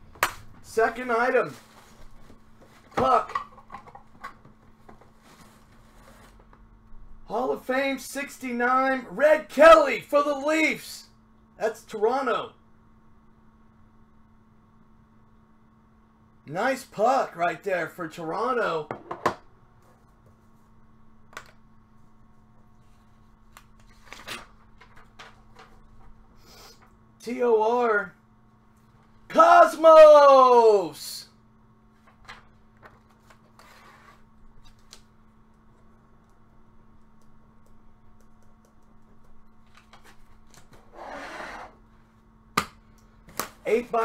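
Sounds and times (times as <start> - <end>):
low room hum: 0.0 - 44.0.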